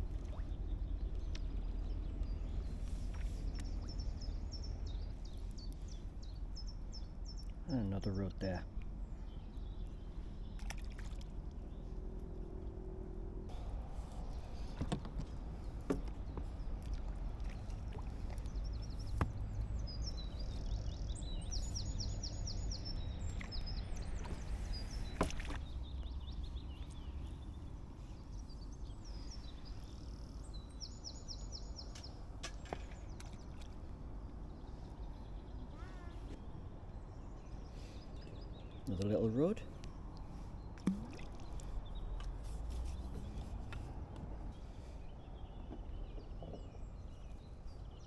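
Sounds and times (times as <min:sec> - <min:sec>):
songbird singing: 0:00.0 - 0:48.0.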